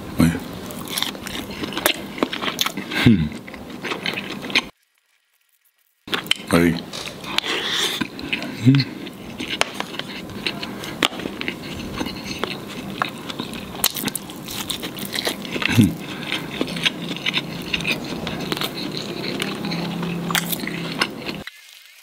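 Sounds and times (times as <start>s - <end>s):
closed-mouth hum: 0.0s - 4.7s, 6.1s - 21.4s
chewing crispy food: 0.2s - 22.0s.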